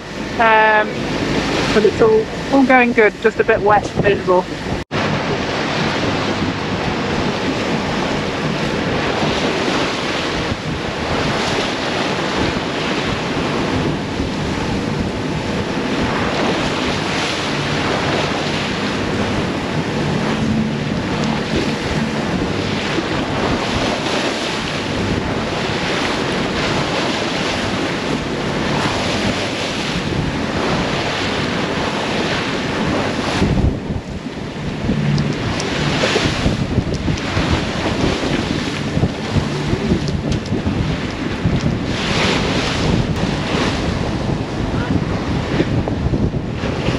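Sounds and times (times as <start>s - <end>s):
rough sea rushing and breaking: 0.0s - 46.9s
wind buffeting microphone: 0.0s - 46.9s.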